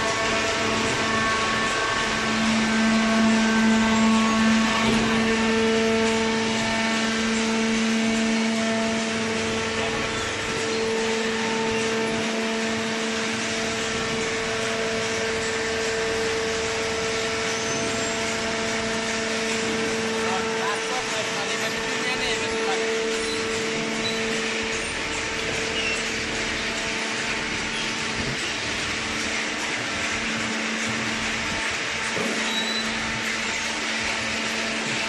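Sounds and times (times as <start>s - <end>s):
hydraulic motor and pump humming: 0.0s - 35.0s.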